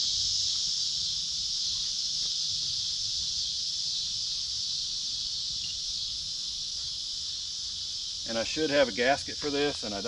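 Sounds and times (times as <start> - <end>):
chorus of crickets: 0.0 - 10.0.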